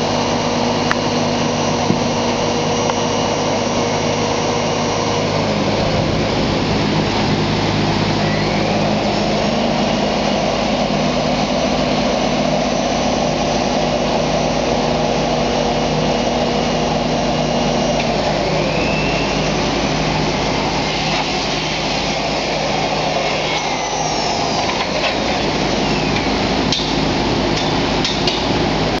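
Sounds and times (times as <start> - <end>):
machine hum: 0.0 - 29.0
machine motor drone: 0.0 - 29.0
rising whine: 0.0 - 29.0.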